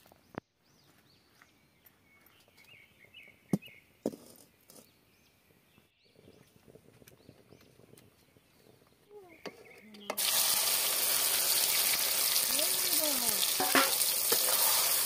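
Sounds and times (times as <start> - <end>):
small birds chirping: 0.0 - 10.3, 11.5 - 13.6.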